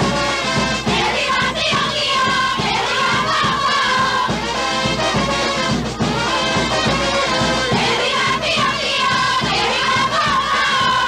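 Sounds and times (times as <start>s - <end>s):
brass section playing: 0.0s - 11.0s
steady beat: 0.0s - 11.0s.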